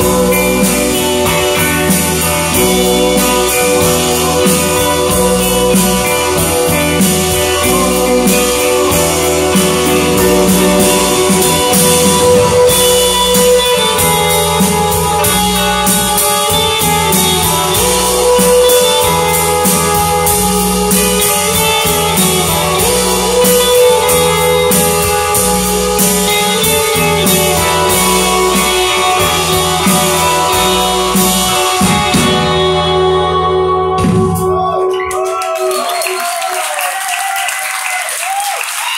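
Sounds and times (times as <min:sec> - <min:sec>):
drums and cymbals: 0:00.0 - 0:35.1
electric guitar: 0:00.0 - 0:36.2
bass guitar: 0:00.0 - 0:36.3.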